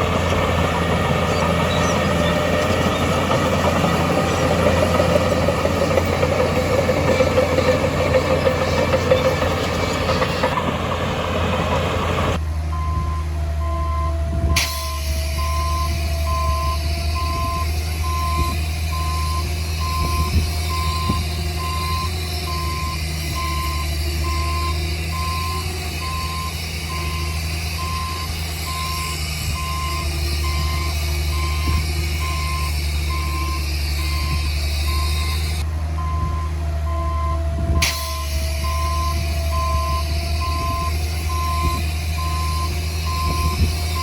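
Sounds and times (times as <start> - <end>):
diesel engine rumble with whine: 0.0 - 44.0
reversing alarm beeping: 0.0 - 44.0.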